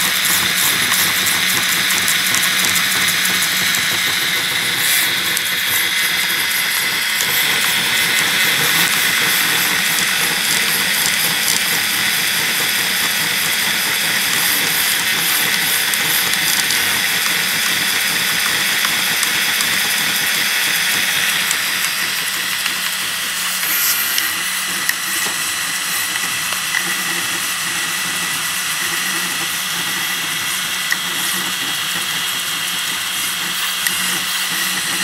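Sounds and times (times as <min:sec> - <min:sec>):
stepper motors whirring: 0:00.0 - 0:35.0.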